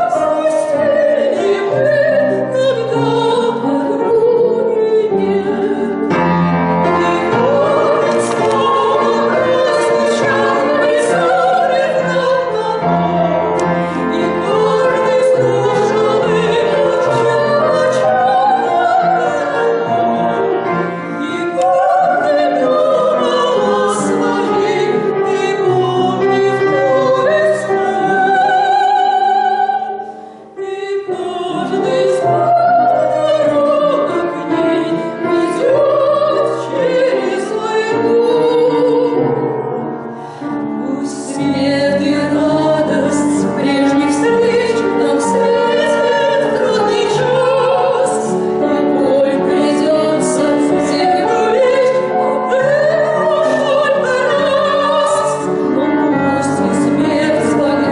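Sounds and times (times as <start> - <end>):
women singing operatically: 0.0 - 6.2, 6.8 - 30.0, 30.6 - 39.4, 40.7 - 57.9
piano accompaniment: 0.0 - 57.9.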